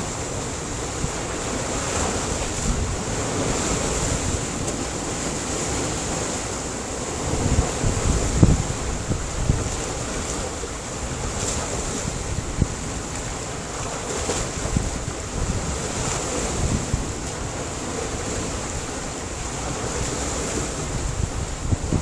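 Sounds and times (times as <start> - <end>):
waves breaking on rocks: 0.0 - 22.0.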